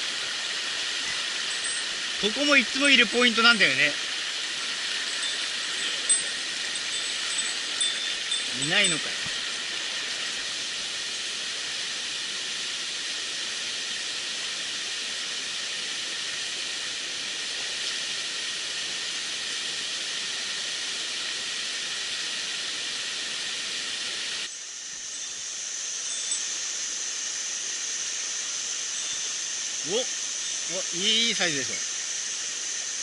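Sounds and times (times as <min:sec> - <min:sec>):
mountain stream rushing water: 0:00.0 - 0:33.0.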